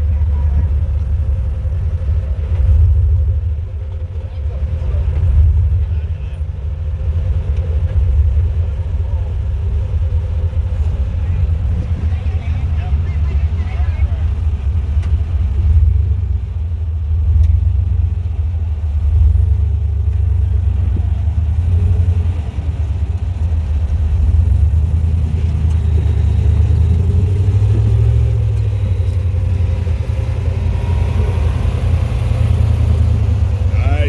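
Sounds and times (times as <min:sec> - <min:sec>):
off-road vehicle engine rumbling: 0:00.0 - 0:34.0.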